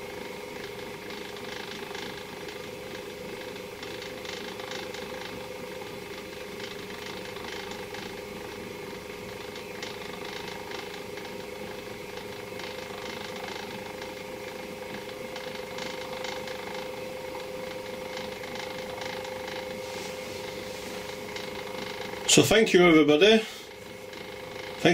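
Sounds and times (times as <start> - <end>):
small electric motor humming: 0.0 - 22.4
faint irregular ticking: 0.2 - 19.8, 20.4 - 24.9.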